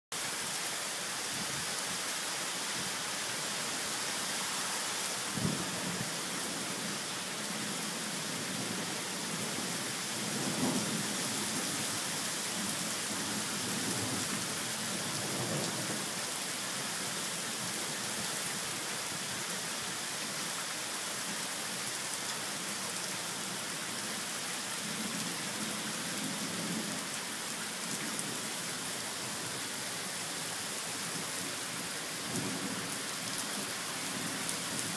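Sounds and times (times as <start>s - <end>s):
heavy rain on pavement: 0.1s - 34.9s.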